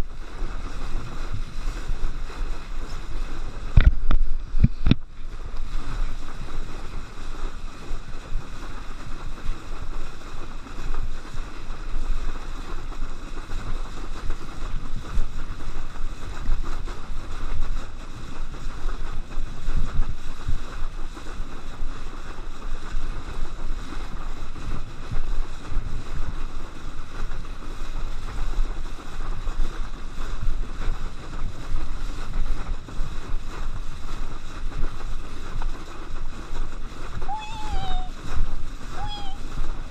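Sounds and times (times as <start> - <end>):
water rushing and splashing: 0.0 - 39.9
wind buffeting microphone: 0.0 - 39.9.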